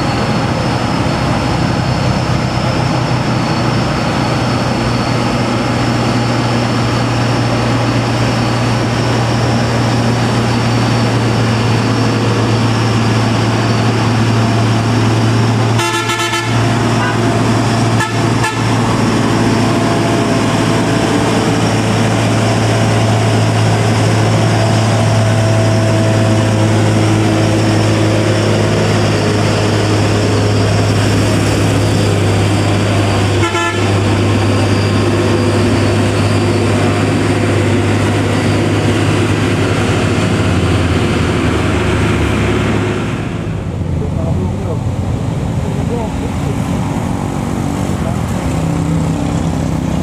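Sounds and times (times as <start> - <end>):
diesel truck engine straining: 0.0 - 50.0.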